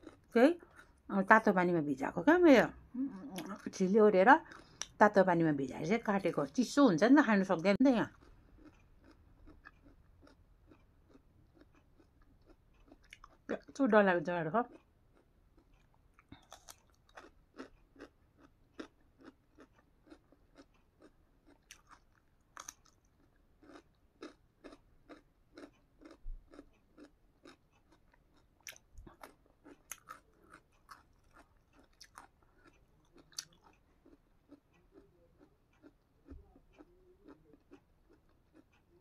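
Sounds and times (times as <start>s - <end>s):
chewing crisp radish: 0.0s - 1.1s, 3.2s - 5.0s, 7.8s - 39.0s.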